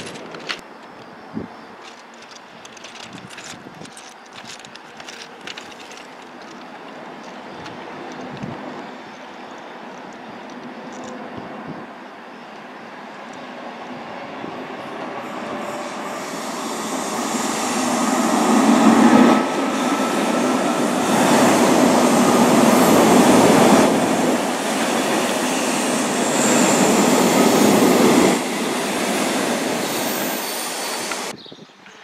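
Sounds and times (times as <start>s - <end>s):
electric train passing: 0.0s - 31.3s
wheels squealing on rails: 0.0s - 31.4s.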